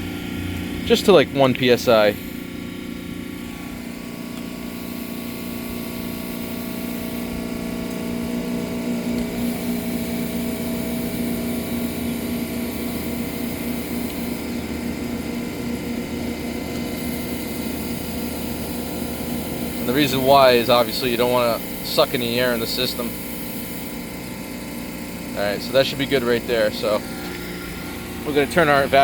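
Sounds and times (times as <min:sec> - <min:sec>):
high gas hiss: 0:00.0 - 0:29.0
vacuum pump humming: 0:00.0 - 0:29.0.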